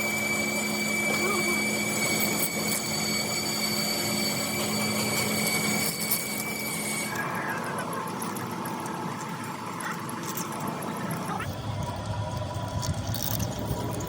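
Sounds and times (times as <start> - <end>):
machine tool whining hum: 0.0 - 14.0.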